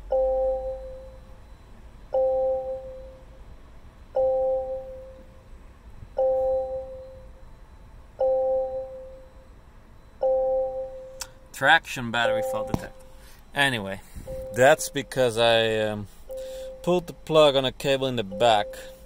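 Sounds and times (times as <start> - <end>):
car warning chime: 0.0 - 19.0.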